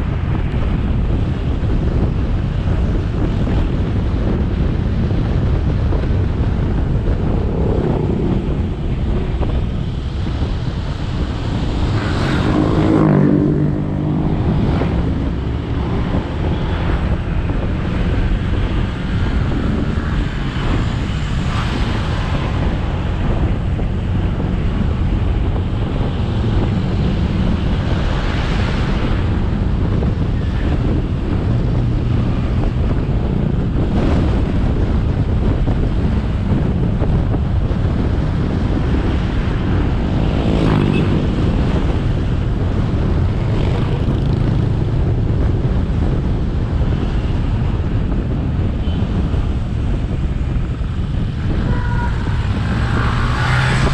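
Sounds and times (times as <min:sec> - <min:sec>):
wind rush over microphone: 0:00.0 - 0:53.9.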